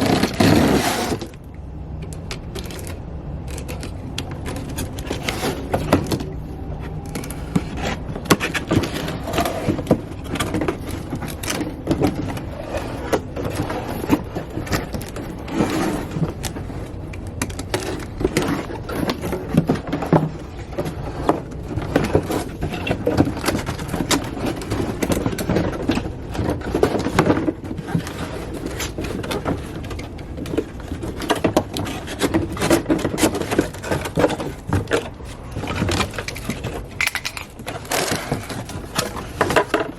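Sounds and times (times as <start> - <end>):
cardboard box being unpacked: 0.0 - 1.5, 2.3 - 39.9.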